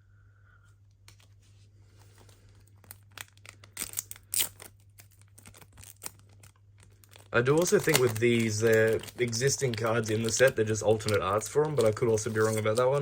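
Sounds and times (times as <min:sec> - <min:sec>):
faint steady hum: 0:00.0 - 0:13.0
plastic wrapper crinkling: 0:01.1 - 0:13.0.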